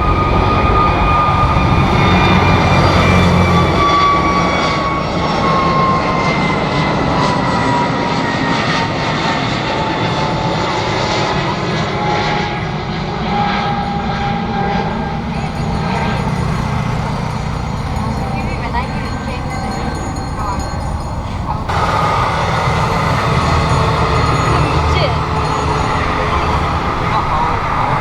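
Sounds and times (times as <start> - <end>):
jet airliner engines passing: 0.0 - 28.0.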